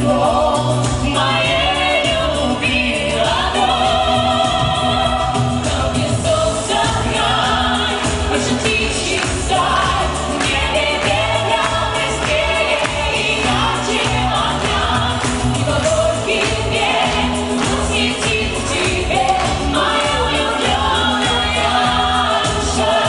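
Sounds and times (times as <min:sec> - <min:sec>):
pop accompaniment with steady beat: 0:00.0 - 0:23.0
vocal trio singing: 0:00.0 - 0:23.0.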